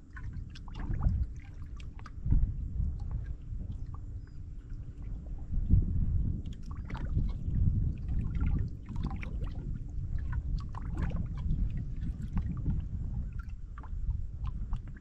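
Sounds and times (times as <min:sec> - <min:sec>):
water around a boat: 0:00.0 - 0:15.0
wind rumble: 0:00.0 - 0:15.0.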